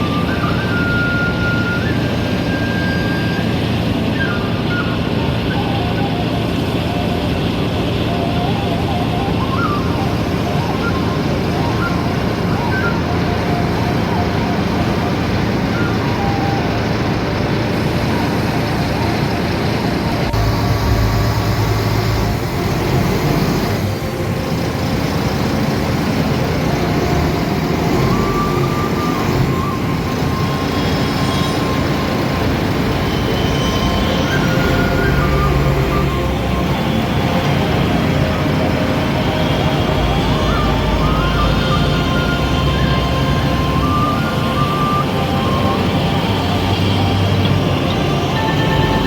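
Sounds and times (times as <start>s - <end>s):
boat engine rumbling: 0.0s - 49.0s.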